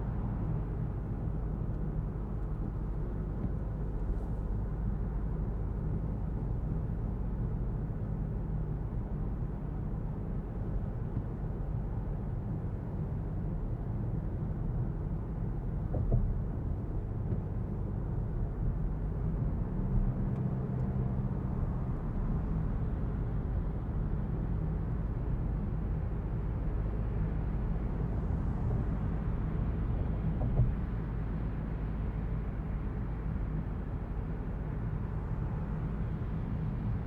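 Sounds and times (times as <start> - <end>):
car engine and road drone: 0.0 - 37.0.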